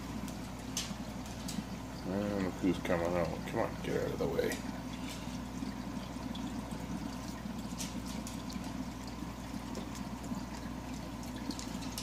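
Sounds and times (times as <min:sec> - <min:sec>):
aquarium pumps humming: 0:00.0 - 0:12.0
water trickling and splashing: 0:00.0 - 0:12.0.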